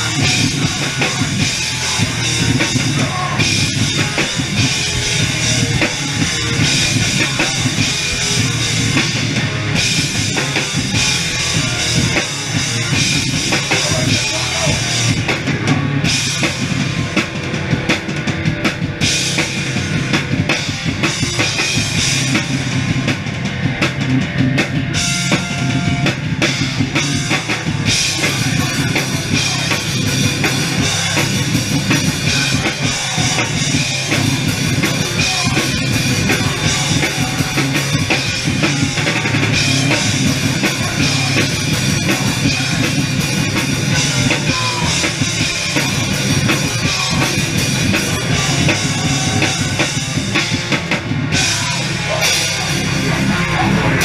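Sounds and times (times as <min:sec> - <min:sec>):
bass guitar: 0:00.0 - 0:54.0
distorted electric guitars: 0:00.0 - 0:54.0
pounding drum kit: 0:00.0 - 0:54.0.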